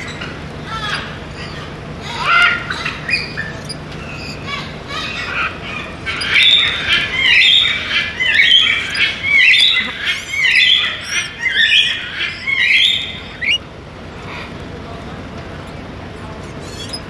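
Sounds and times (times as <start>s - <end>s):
macaw squawking: 0.0s - 13.6s, 16.5s - 17.0s.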